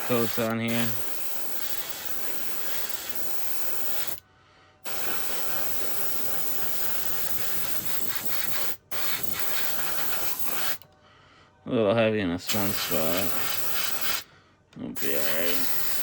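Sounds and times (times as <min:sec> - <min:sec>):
spray can hissing: 0:00.0 - 0:04.2, 0:04.9 - 0:10.8, 0:12.5 - 0:14.2, 0:15.0 - 0:16.0.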